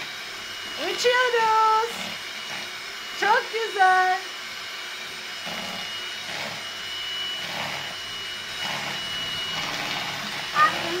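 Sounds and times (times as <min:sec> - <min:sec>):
electric hand mixer whining: 0:00.0 - 0:11.0.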